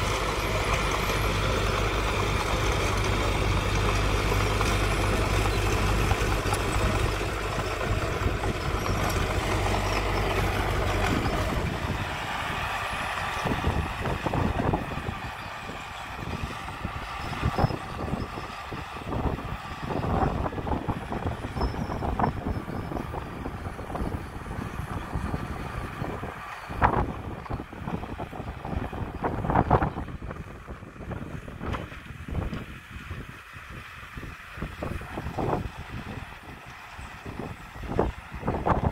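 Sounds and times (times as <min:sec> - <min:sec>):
bulldozer diesel engine running: 0:00.0 - 0:38.9
gusty wind buffeting: 0:00.0 - 0:38.9.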